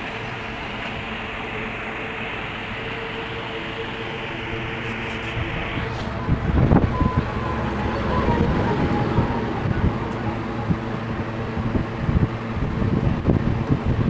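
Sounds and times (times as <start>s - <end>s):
air buffeting microphone: 0.0s - 14.0s
fan motor humming: 0.0s - 14.0s.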